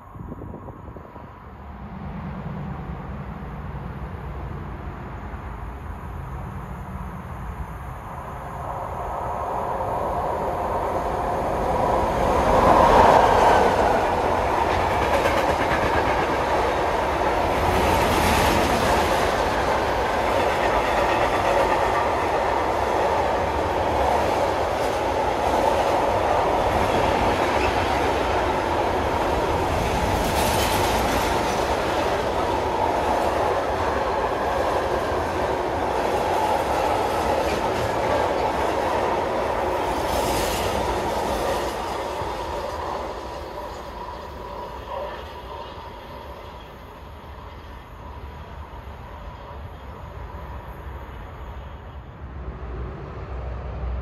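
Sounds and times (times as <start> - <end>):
electric locomotive passing: 0.0 - 54.0.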